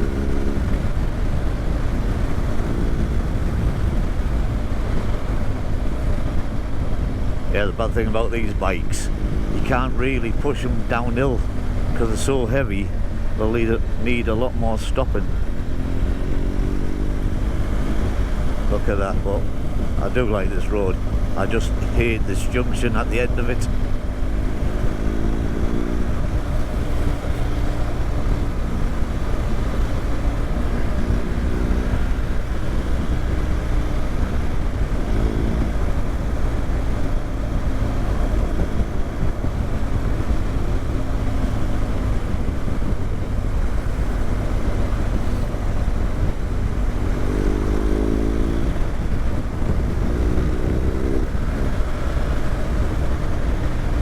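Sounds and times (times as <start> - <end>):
motorcycle engine accelerating: 0.0 - 54.0
wind rumble on microphone: 0.0 - 54.0.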